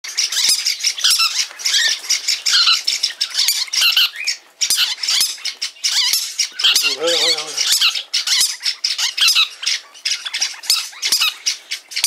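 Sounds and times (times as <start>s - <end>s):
parrot squawking and chattering: 0.1s - 12.0s.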